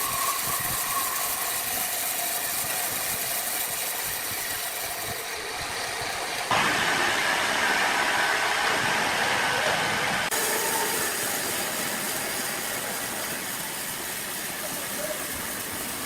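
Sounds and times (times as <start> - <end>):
high machine whine: 0.0 - 16.0
sawmill machinery running: 0.0 - 16.0.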